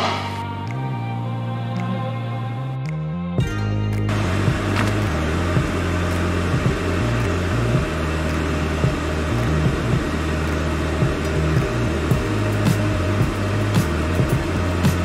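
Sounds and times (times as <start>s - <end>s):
background music with low bass line: 0.0s - 15.0s.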